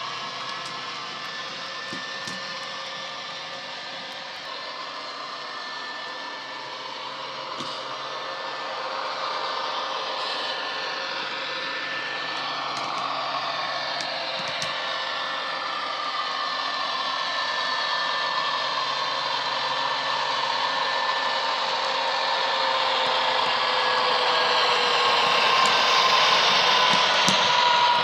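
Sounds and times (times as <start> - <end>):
diesel locomotive sound from small speaker: 0.0 - 28.0.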